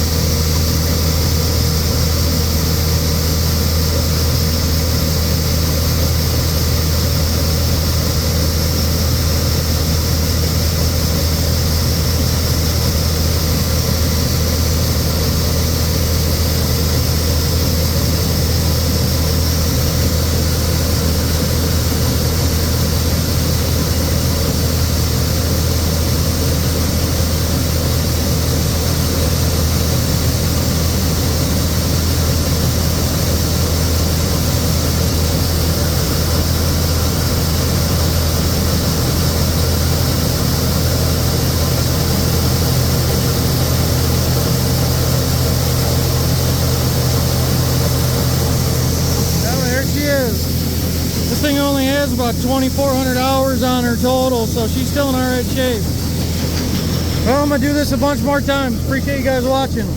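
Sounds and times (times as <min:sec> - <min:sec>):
diesel engine hum: 0:00.0 - 0:59.9.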